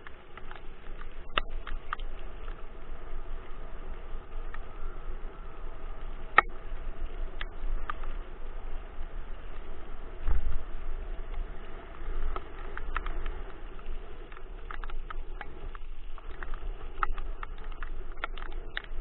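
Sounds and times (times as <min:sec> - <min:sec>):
sharp clicks and ticks: 0:00.0 - 0:03.5, 0:06.3 - 0:08.3, 0:09.2 - 0:19.0
scooter rolling on asphalt: 0:00.0 - 0:19.0.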